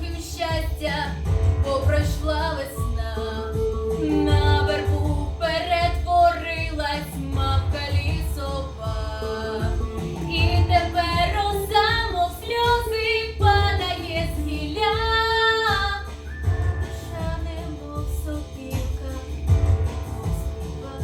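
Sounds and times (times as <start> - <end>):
girl singing pop song: 0.0 - 21.0
instrumental backing with pulsing bass: 0.0 - 21.0.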